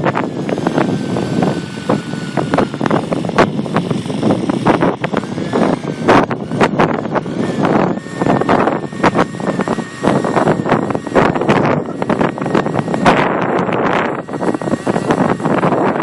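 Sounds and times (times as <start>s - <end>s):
rc helicopter engine whine: 0.0s - 16.0s
wind buffeting microphone: 0.0s - 16.0s.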